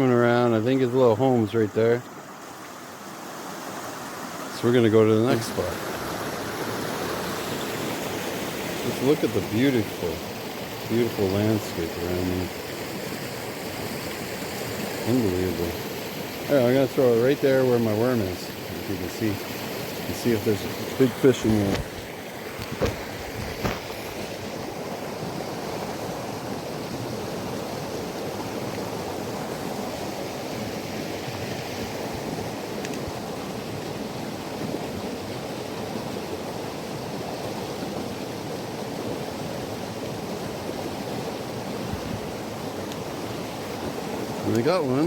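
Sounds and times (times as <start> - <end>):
creek water rushing over rocks: 0.0 - 45.0.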